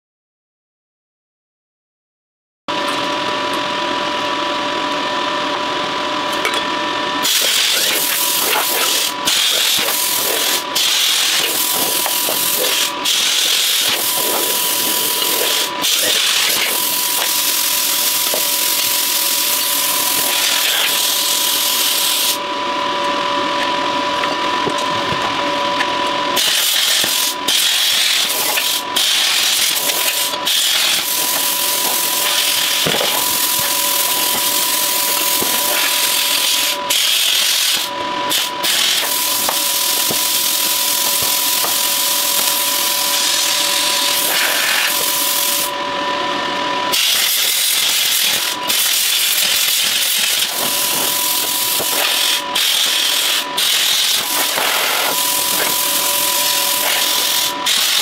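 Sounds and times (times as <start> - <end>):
angle grinder grinding metal: 6.2 - 58.0.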